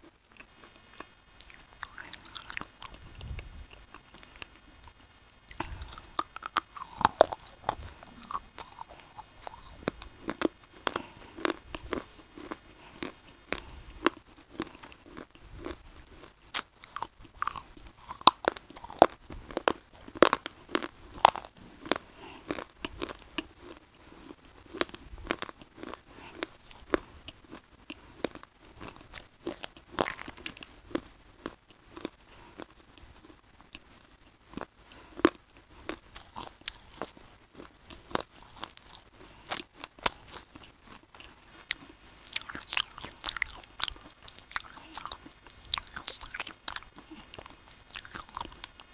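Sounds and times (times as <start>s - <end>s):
person chewing crunchy biscuits: 0.0s - 48.9s.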